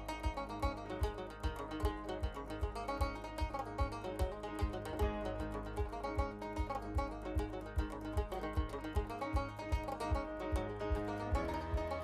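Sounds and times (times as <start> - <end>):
low drum beat: 0.0 - 12.0
picked banjo melody: 0.0 - 12.0.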